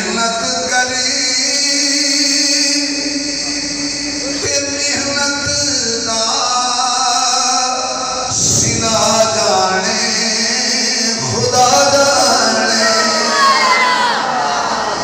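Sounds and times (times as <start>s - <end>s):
man singing unaccompanied: 0.0s - 13.7s.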